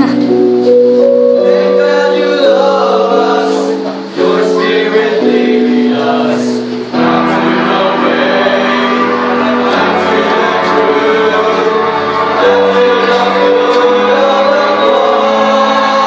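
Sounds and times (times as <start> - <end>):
choir singing a hymn: 1.2 - 16.0.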